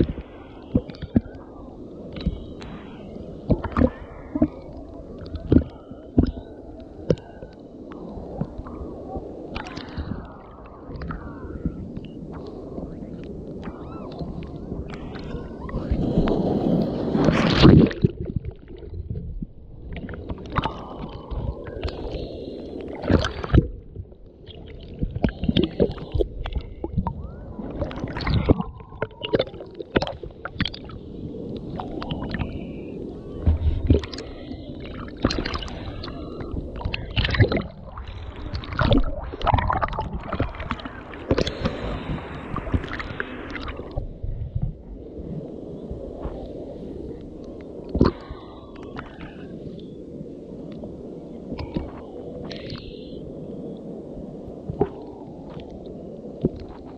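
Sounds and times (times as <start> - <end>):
small waves sloshing: 0.0 - 56.9.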